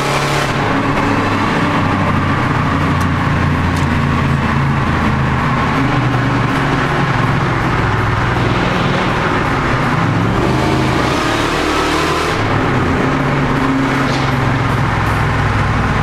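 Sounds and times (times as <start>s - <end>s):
car engines echoing in a tunnel: 0.0s - 16.0s.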